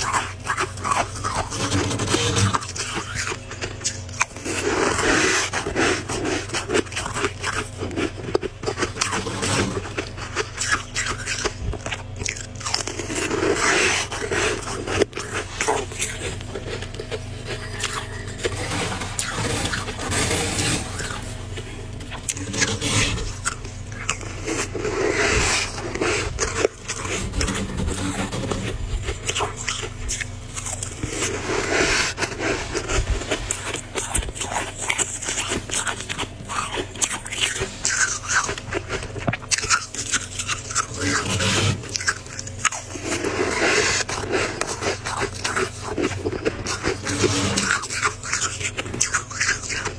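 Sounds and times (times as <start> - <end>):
plastic spoon scraping freezer frost: 0.0 - 49.9.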